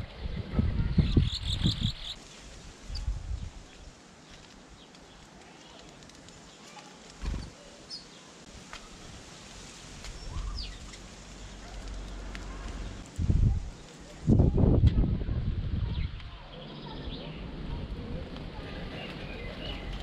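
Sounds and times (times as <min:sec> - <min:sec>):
small birds chirping: 0:00.2 - 0:09.2, 0:10.0 - 0:14.3, 0:15.7 - 0:20.0.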